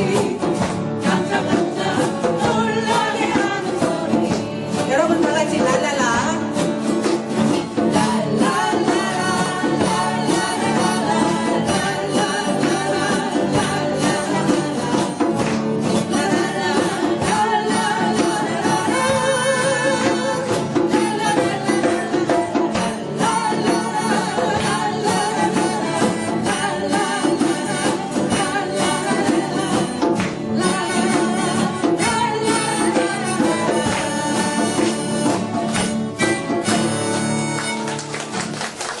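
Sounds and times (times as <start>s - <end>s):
person singing: 0.0s - 6.5s, 7.8s - 35.6s
guitars: 0.0s - 39.0s
percussion beat: 0.0s - 39.0s.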